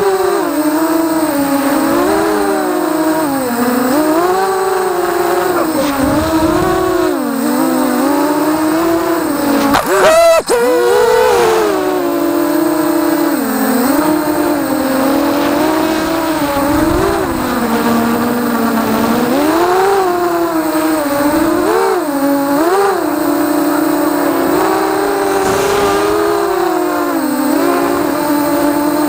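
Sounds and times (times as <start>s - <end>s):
drone propellers buzzing: 0.0s - 29.0s.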